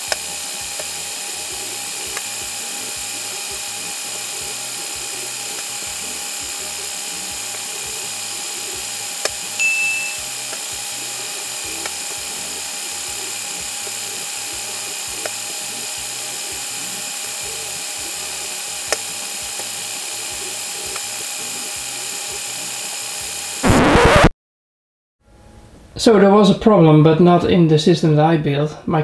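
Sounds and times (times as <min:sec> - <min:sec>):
electric motors whirring: 0:00.0 - 0:24.2.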